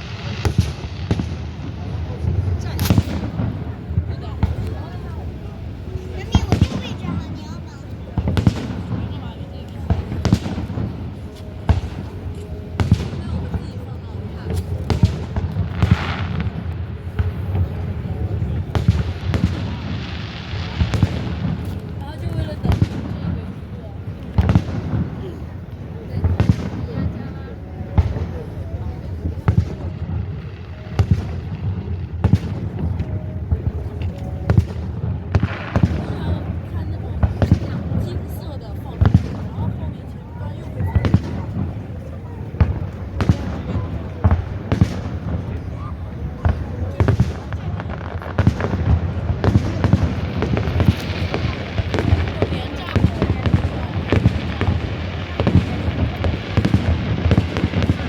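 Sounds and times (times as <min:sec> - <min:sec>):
fireworks booming: 0:00.0 - 0:58.0.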